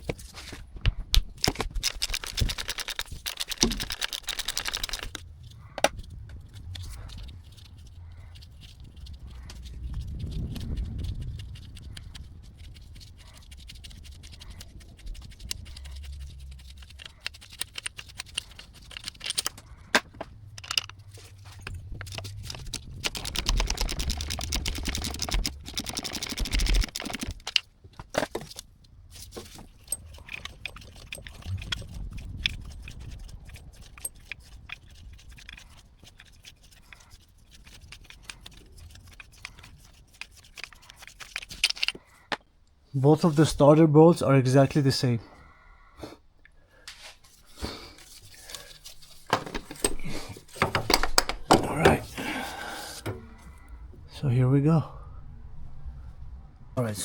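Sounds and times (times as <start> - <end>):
metallic clinks and scrapes: 1.4 - 42.5, 47.0 - 53.7.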